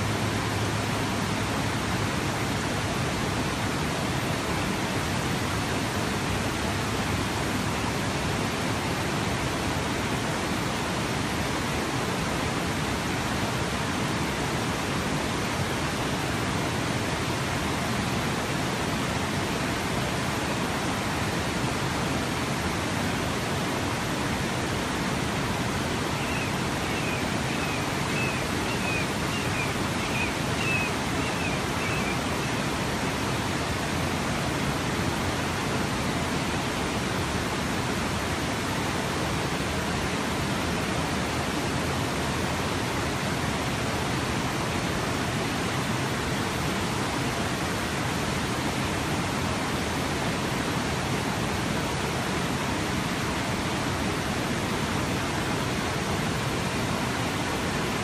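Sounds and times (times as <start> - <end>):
river rushing over weir: 0.0 - 58.0.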